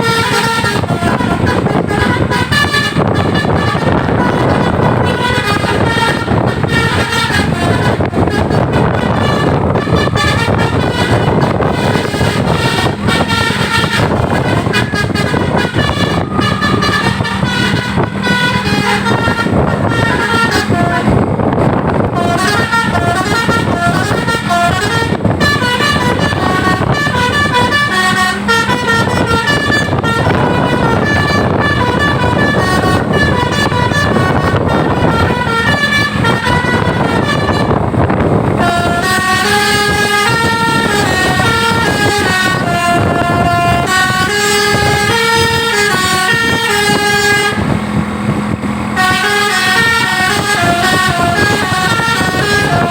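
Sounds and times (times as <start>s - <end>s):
bus engines: 0.0s - 52.9s
musical bus horns playing melodies: 0.0s - 52.9s.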